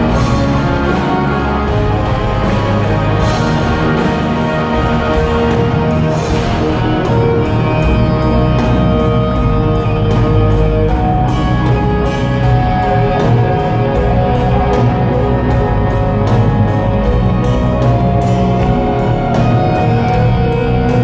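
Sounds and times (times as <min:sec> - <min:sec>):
drums and cymbals: 0:00.0 - 0:21.0
electric guitars: 0:00.0 - 0:21.0.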